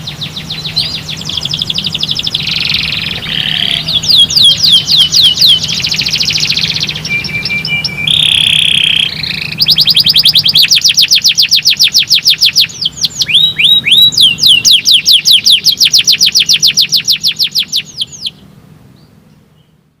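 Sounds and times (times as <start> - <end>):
canary singing trills: 0.0 - 19.8.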